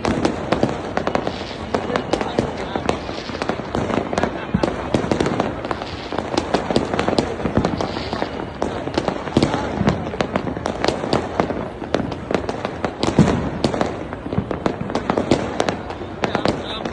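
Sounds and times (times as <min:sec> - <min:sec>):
firecracker crackling: 0:00.0 - 0:16.9
fireworks popping and banging: 0:00.0 - 0:16.9.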